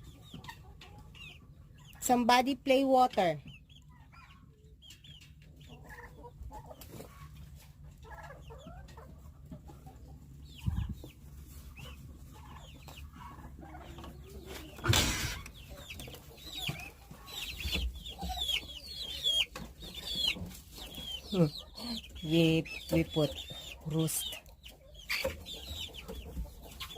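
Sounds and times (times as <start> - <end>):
baby chicks peeping: 0.0 - 26.9.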